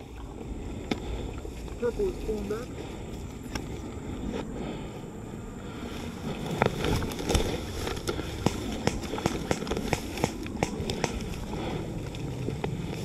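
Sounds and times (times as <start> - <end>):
grass rustling and stems snapping: 0.0 - 4.0, 5.8 - 13.0.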